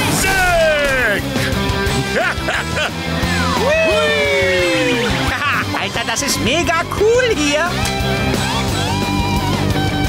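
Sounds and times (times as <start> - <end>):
upbeat rock music: 0.0 - 10.0.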